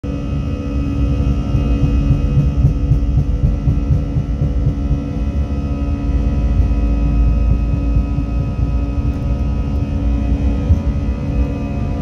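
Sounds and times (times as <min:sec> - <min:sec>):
jet engines whining: 0:00.0 - 0:12.0
wheels rumbling on runway: 0:00.0 - 0:12.0.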